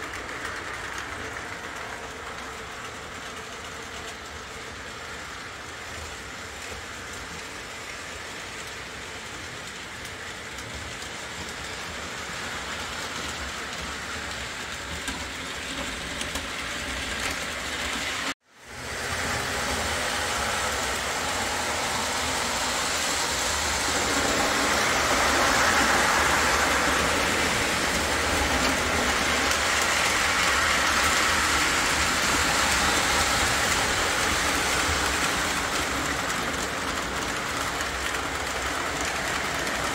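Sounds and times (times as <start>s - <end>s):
model train rolling on track: 0.0s - 39.9s.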